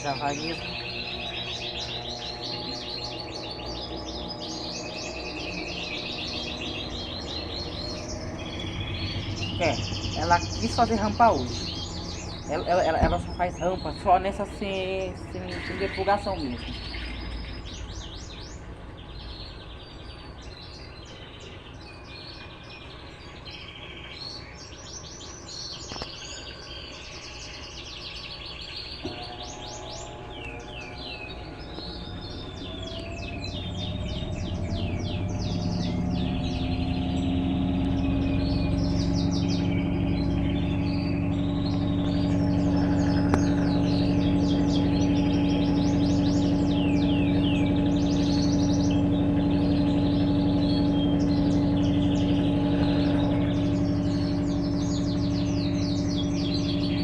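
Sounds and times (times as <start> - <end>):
birds chirping: 0.0 - 57.0
washing machine spin whine: 0.0 - 57.0.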